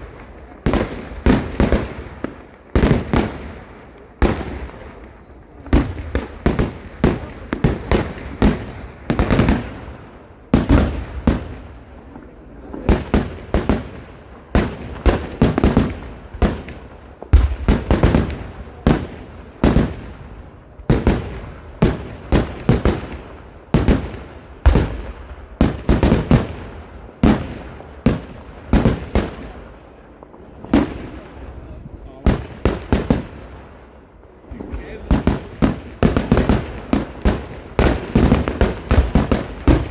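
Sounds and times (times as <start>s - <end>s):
fireworks banging: 0.0s - 39.9s.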